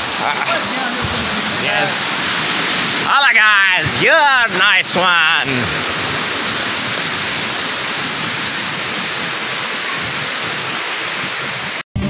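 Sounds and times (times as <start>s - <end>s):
fast-flowing stream rushing: 0.0s - 11.8s.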